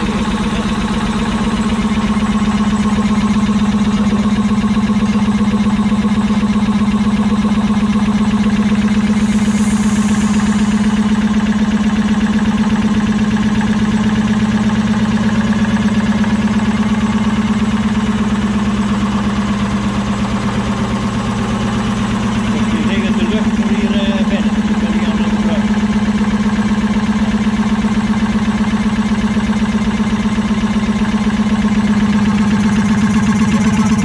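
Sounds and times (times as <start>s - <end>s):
stationary engine running: 0.0s - 34.0s.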